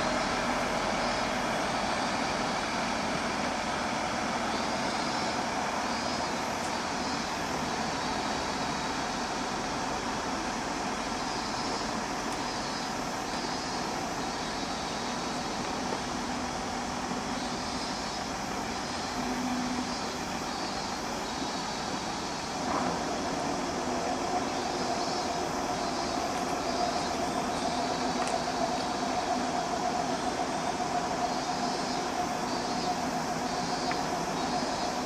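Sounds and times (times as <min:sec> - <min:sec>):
rail vehicle engine and rolling: 0:00.0 - 0:35.0
steady whine: 0:00.0 - 0:35.0.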